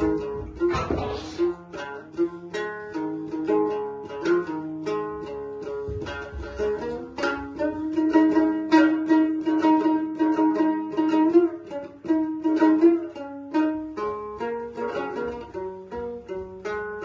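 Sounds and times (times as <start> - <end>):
lute strummed rapidly: 0.0 - 17.0.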